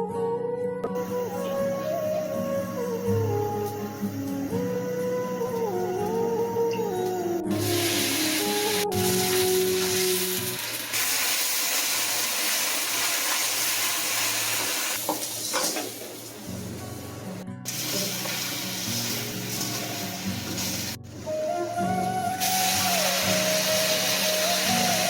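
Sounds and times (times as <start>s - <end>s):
light background music: 0.0s - 11.4s, 13.2s - 25.0s
steady hiss: 1.0s - 6.4s, 7.5s - 21.0s, 22.4s - 25.0s.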